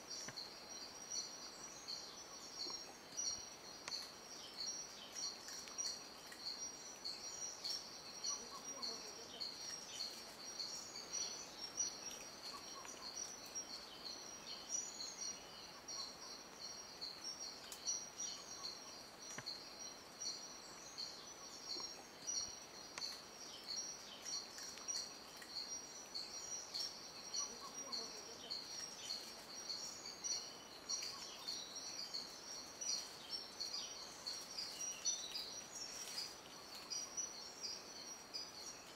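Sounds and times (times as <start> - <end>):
bird chirps: 0.0 - 38.9
high-pitched pulsing insect chorus: 0.0 - 38.9.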